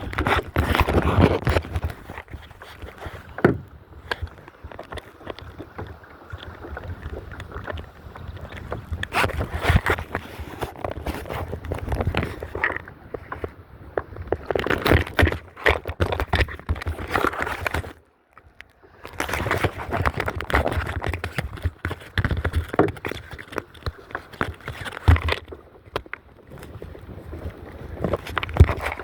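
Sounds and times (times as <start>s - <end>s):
kayak paddle scraping and knocking: 0.0s - 29.0s
water sloshing: 0.0s - 29.0s.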